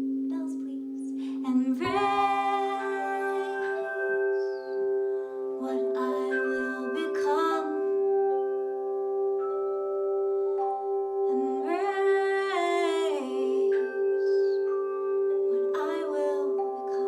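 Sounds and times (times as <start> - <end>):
singing bowls ringing: 0.0 - 17.0
wordless sung note: 0.0 - 17.0.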